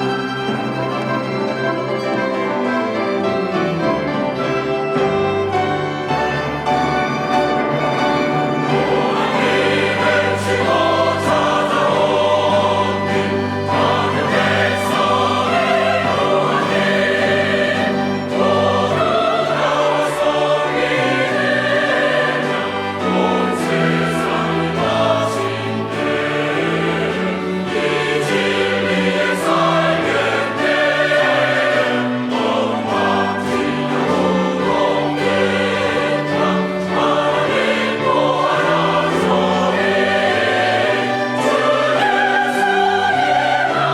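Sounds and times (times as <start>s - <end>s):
church choir singing: 0.0s - 43.9s
instrumental accompaniment: 0.0s - 43.9s.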